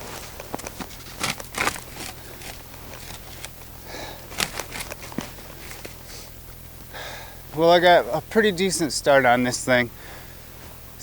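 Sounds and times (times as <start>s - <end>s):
branches rustling: 0.0s - 11.0s
icy branches cracking: 0.0s - 11.0s.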